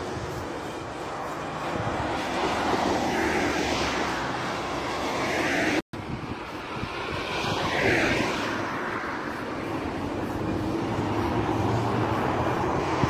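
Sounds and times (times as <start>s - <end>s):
motorway traffic rush: 0.0s - 13.0s
vehicle passing by: 0.0s - 13.0s.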